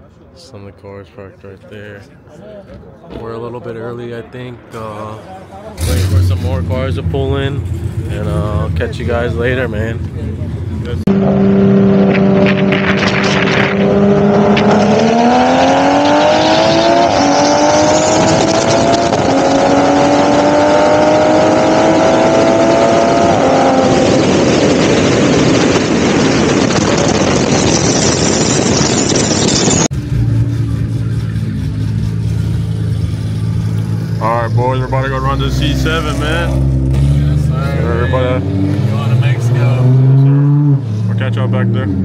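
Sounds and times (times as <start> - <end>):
road and wind noise: 0.0 - 42.0
car engine accelerating: 2.8 - 42.0.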